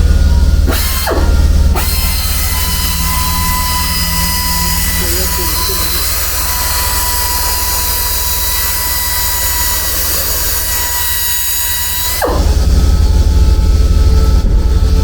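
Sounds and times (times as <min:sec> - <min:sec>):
loud low rumble: 0:00.0 - 0:15.0
low machine hum: 0:00.0 - 0:15.0
machine hiss with high tones: 0:00.2 - 0:15.0.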